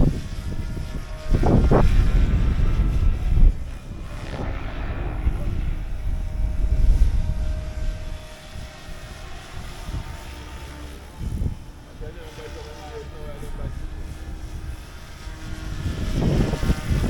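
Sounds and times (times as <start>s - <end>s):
model helicopter rotor whine: 0.0s - 17.0s
wind on microphone: 0.0s - 17.0s.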